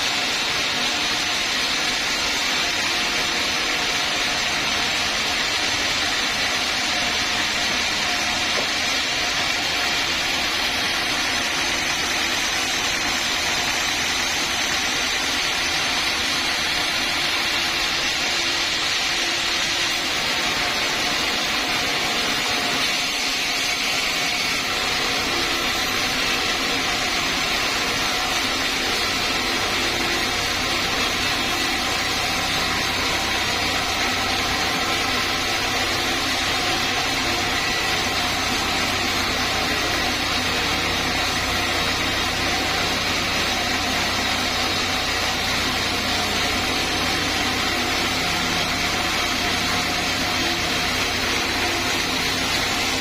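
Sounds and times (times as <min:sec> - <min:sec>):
sawmill machinery droning: 0:00.0 - 0:53.0.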